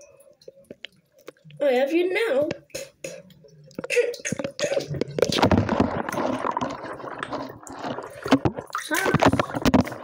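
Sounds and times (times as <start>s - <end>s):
bathwater splashing and gurgling: 0.0s - 10.0s.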